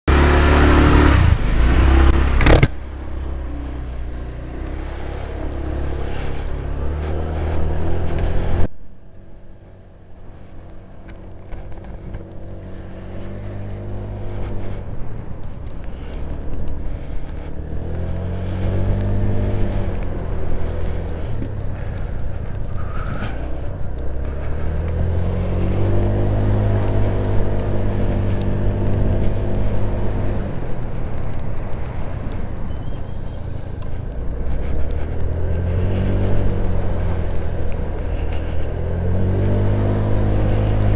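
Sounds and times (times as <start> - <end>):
scooter engine: 0.1 - 8.7, 10.3 - 40.9.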